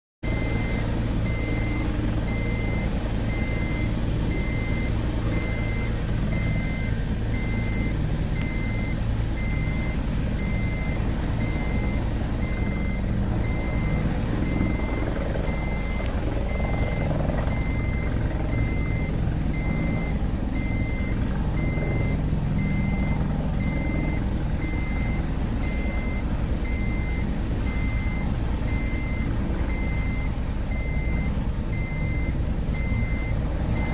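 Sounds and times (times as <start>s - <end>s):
helicopter engine hum: 0.2s - 33.9s
electronic beeps: 0.3s - 33.9s.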